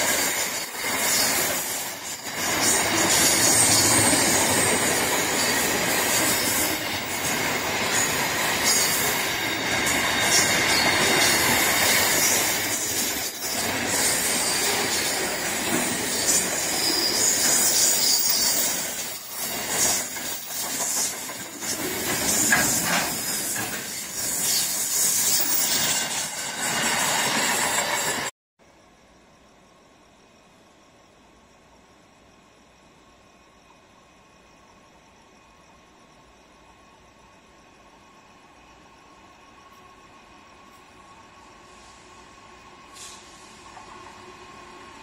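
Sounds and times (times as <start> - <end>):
freight train passing: 0.0 - 28.3, 32.8 - 45.0
high hiss: 0.0 - 45.0.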